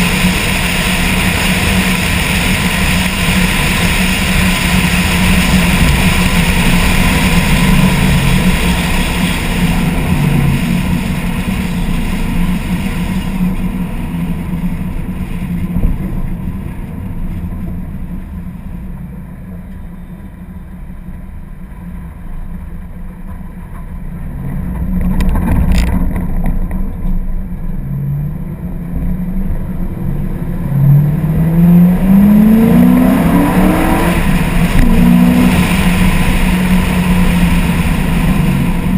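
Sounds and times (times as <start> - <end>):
car engine revving: 0.0 - 19.4, 24.1 - 38.9.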